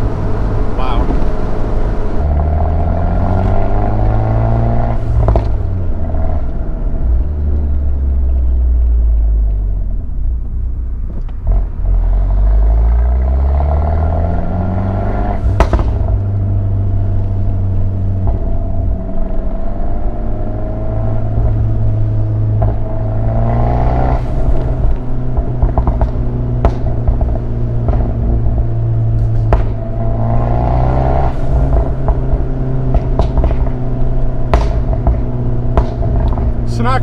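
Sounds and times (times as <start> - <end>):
car engine revving: 0.0 - 37.0
deep exhaust rumble: 0.0 - 37.0
exhaust crack: 0.0 - 37.0.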